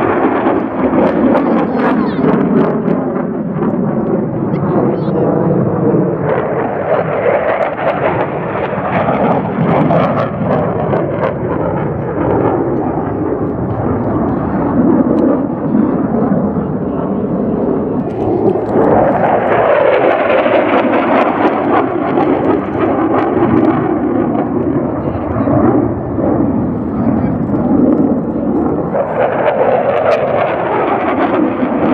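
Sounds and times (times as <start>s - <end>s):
jet engine rumble: 0.0s - 31.9s.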